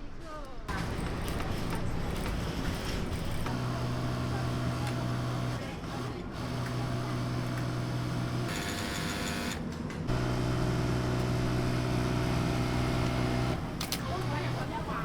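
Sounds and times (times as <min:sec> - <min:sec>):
mechanical hum with low drone: 0:00.7 - 0:15.0.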